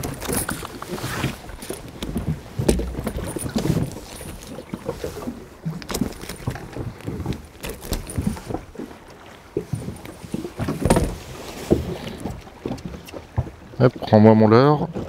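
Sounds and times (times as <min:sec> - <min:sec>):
net and fish rustling and knocking: 0:00.0 - 0:09.0, 0:09.6 - 0:13.5.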